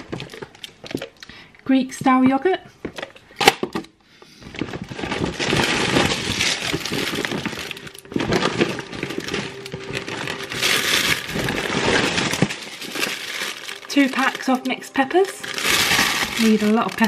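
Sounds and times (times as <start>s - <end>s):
plastic wrapping crinkling: 0.0s - 1.3s, 4.4s - 17.0s.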